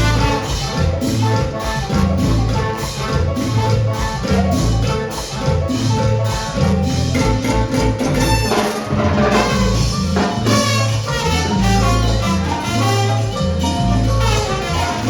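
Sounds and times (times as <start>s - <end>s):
driving bass line: 0.0s - 15.0s
horns: 0.0s - 15.0s
percussion: 0.0s - 15.0s
salsa band playing: 0.0s - 15.0s.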